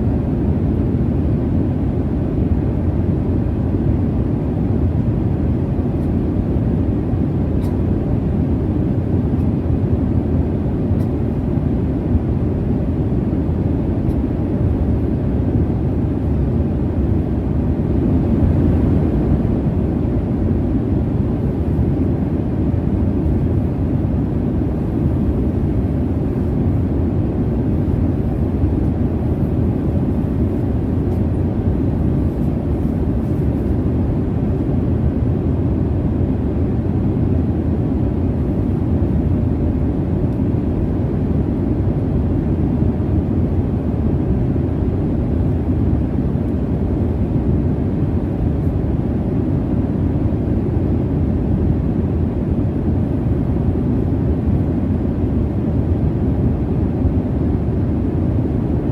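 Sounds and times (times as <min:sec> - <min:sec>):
jet cabin engine rumble: 0:00.0 - 0:58.9.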